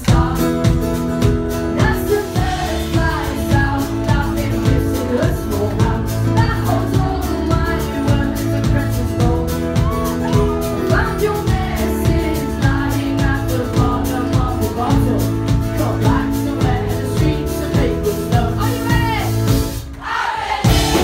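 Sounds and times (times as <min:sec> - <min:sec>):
woman singing: 0:00.0 - 0:19.5
bass: 0:00.0 - 0:20.0, 0:20.6 - 0:21.0
steady drum beat: 0:00.0 - 0:21.0.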